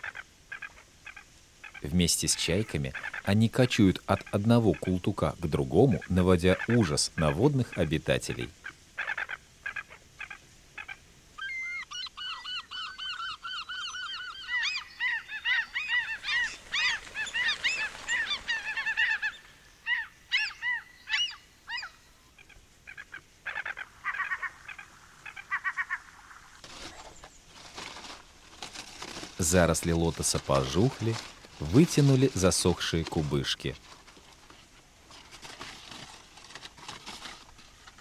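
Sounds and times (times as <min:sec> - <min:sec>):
gulls calling: 0:00.0 - 0:28.2, 0:29.0 - 0:33.8.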